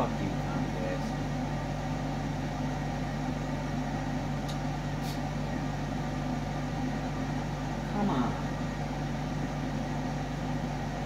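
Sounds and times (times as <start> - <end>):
low hum with low tones: 0.0 - 11.0.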